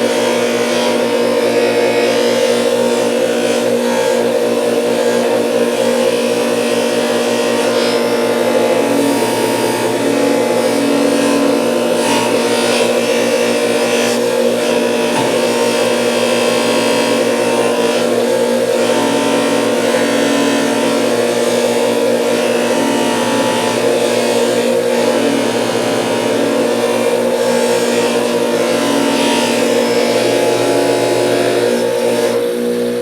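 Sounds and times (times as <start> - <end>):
bench grinder motor hum: 0.0 - 33.0.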